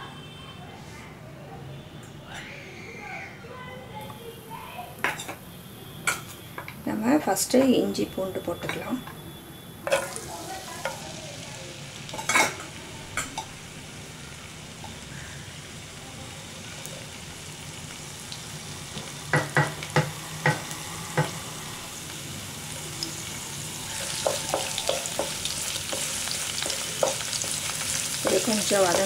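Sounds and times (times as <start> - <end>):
food sizzling in hot oil: 4.2 - 29.0.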